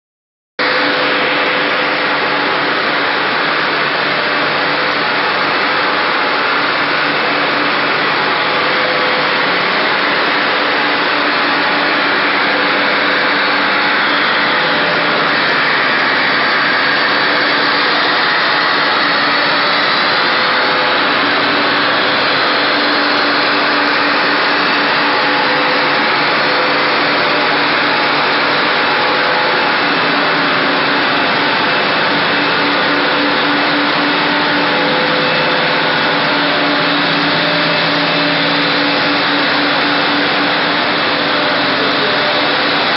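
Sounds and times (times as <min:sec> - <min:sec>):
loud machine noise: 0:00.6 - 0:42.9
low hum tones: 0:00.6 - 0:42.9.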